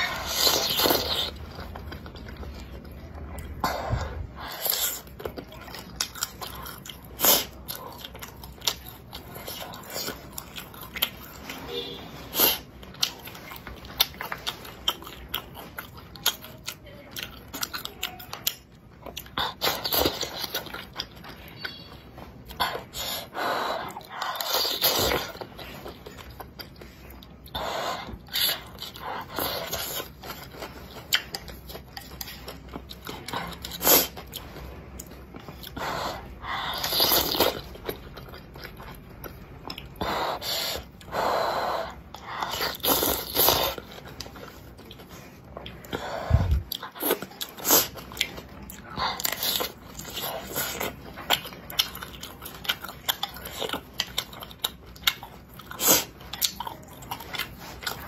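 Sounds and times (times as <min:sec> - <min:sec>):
chewing: 0:00.0 - 0:58.0.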